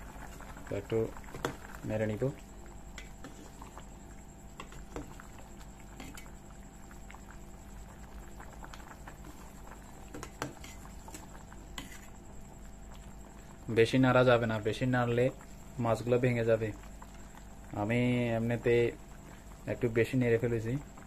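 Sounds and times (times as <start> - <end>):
curry bubbling in a pot: 0.0 - 21.0.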